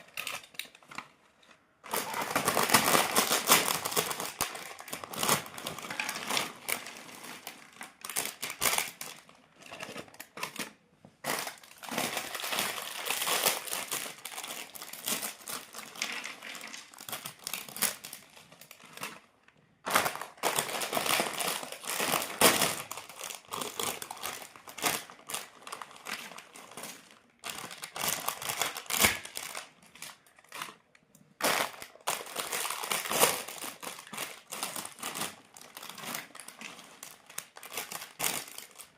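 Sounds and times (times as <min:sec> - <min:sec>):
crisp packet crinkling: 0:00.0 - 0:38.9
close-up crunching of crisps: 0:01.6 - 0:38.9.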